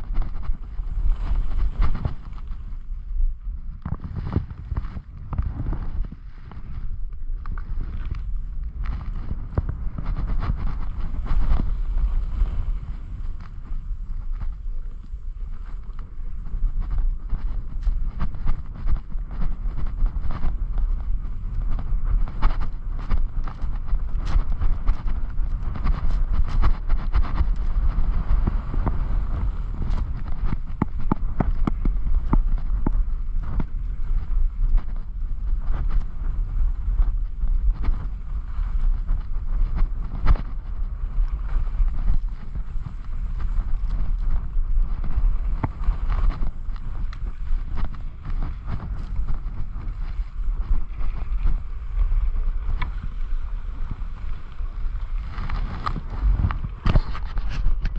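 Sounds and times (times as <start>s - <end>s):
skis scraping on packed snow: 0.0s - 57.9s
wind buffeting microphone: 0.0s - 57.9s.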